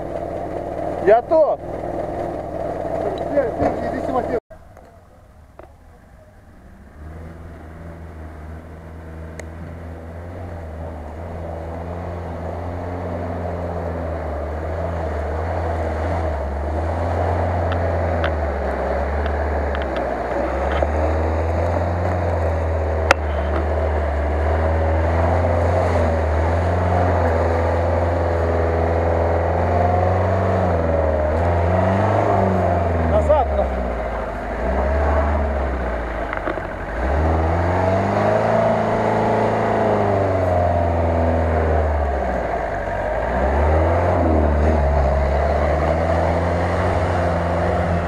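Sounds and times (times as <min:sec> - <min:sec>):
off-road vehicle engine under load: 0:00.0 - 0:48.0.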